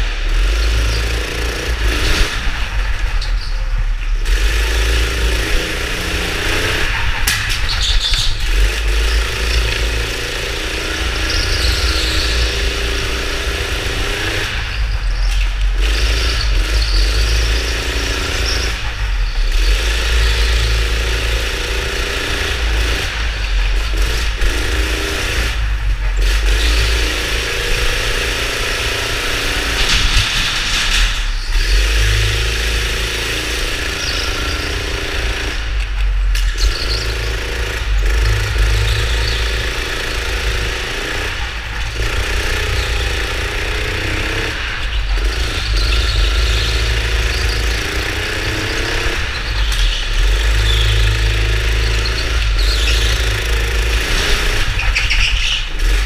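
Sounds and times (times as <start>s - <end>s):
go-kart engine accelerating: 0.0s - 56.0s.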